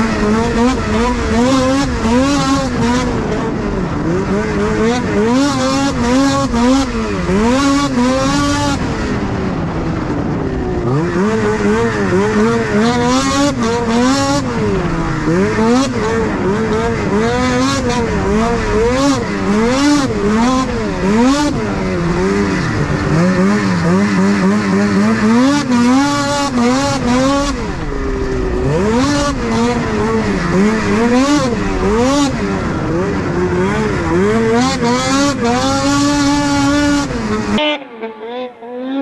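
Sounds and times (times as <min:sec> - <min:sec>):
snowmobile engine revving: 0:00.0 - 0:39.0.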